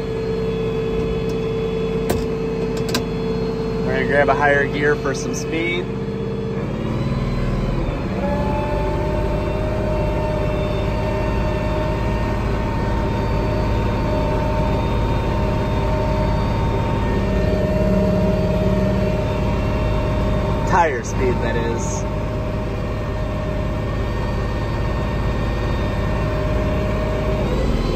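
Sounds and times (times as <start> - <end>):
tractor diesel engine under load: 2.8 - 27.9.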